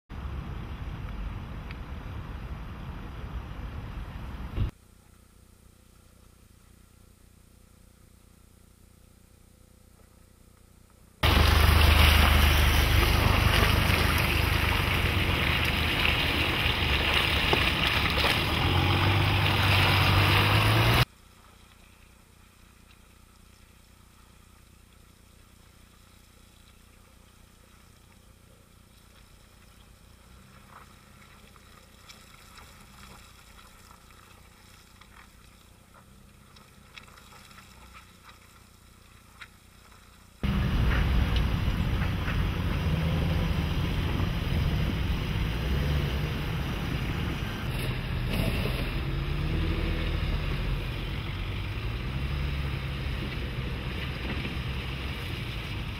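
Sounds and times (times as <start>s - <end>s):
wind and driving noise: 0.1s - 4.8s, 9.9s - 55.9s.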